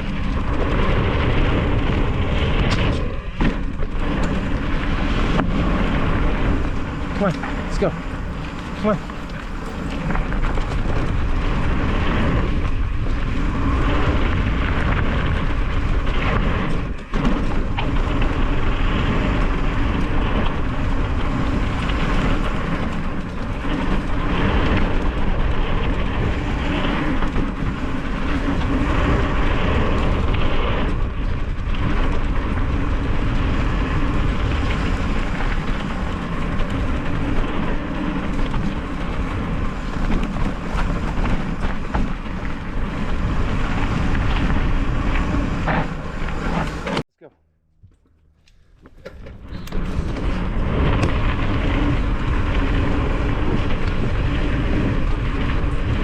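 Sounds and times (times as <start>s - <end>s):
tyres rolling over dirt: 0.0s - 47.0s, 48.6s - 56.0s
wind buffeting microphone: 0.0s - 47.0s, 48.7s - 56.0s.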